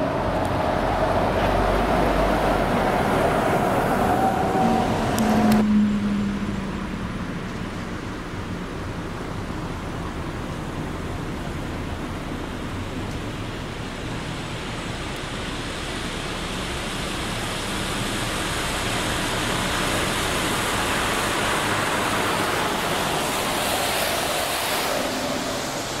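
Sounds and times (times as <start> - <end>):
tyres hissing on wet asphalt: 0.0 - 5.6, 7.1 - 26.0
bus engine passing: 0.0 - 26.0
cars passing: 0.0 - 26.0.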